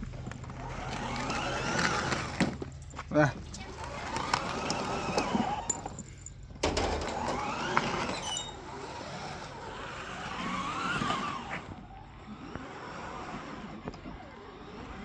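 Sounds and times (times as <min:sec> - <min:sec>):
toy car electric motor whining: 0:00.2 - 0:06.2, 0:06.8 - 0:15.0.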